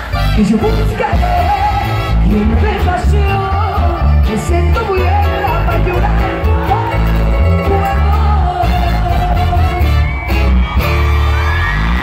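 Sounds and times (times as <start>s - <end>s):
latin popular music with heavy bass: 0.0s - 12.0s.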